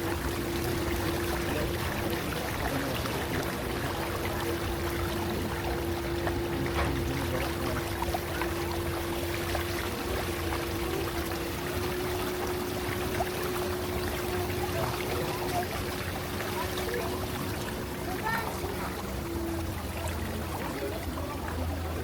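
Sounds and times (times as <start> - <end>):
boat motor humming: 0.0 - 22.0
water splashing on hull: 0.0 - 22.0.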